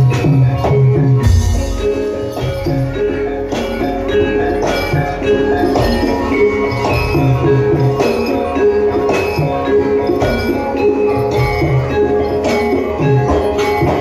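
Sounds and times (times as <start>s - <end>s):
drums: 0.0s - 14.0s
tuned metal percussion: 0.0s - 14.0s.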